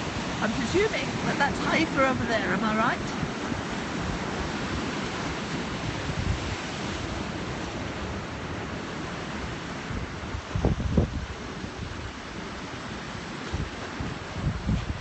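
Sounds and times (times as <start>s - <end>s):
sea surf: 0.0s - 15.0s
wind on microphone: 0.0s - 15.0s.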